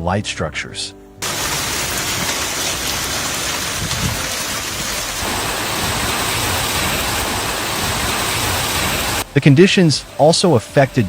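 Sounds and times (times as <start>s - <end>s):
heavy rain pouring: 1.2s - 11.0s.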